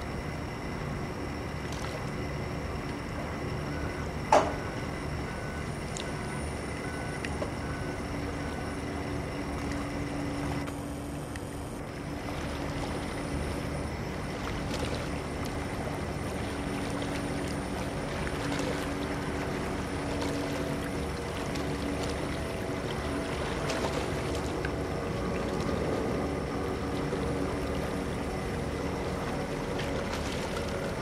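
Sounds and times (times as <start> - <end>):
constant noise: 0.0 - 31.0
low engine hum: 0.0 - 31.0.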